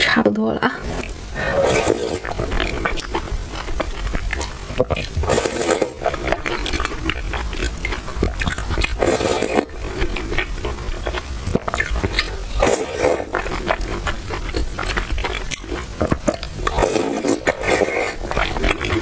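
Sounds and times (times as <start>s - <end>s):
slurping: 0.8s - 19.0s
wet chewing clicks: 0.9s - 19.0s.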